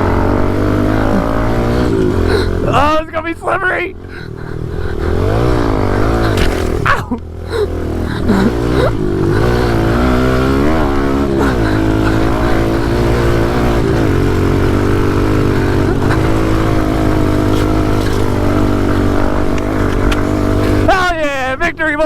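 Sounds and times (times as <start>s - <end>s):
pit bike engines revving: 0.0s - 22.0s.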